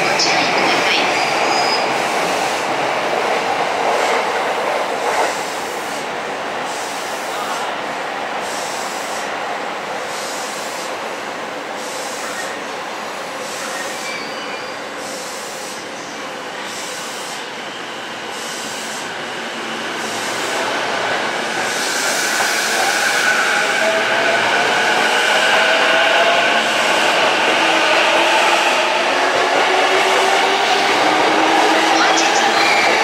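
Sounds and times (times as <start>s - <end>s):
train rolling rail noise: 0.0s - 33.0s.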